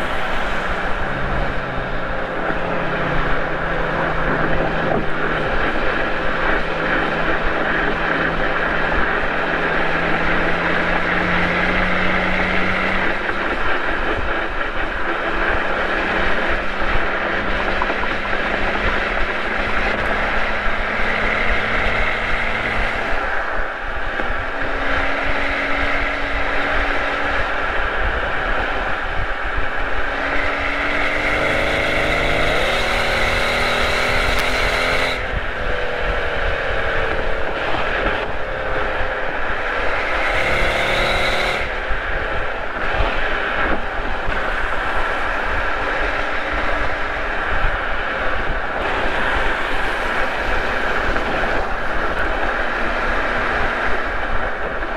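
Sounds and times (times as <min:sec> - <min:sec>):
car engine accelerating: 0:00.0 - 0:54.9
road and wind noise: 0:00.0 - 0:54.9.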